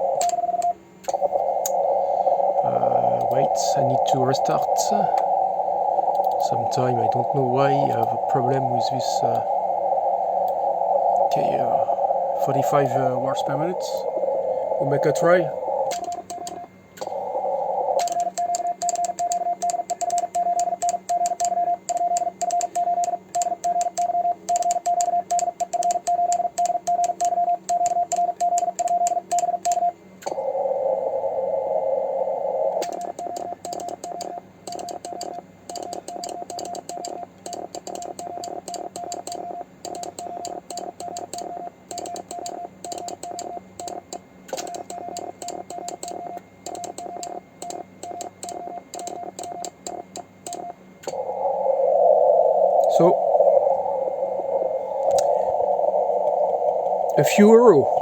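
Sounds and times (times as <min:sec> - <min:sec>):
paddle contacts clicking: 0:00.0 - 0:30.4, 0:32.7 - 0:52.0, 0:52.6 - 0:58.0
morse code beeps: 0:00.0 - 0:58.0
receiver hiss: 0:00.0 - 0:58.0.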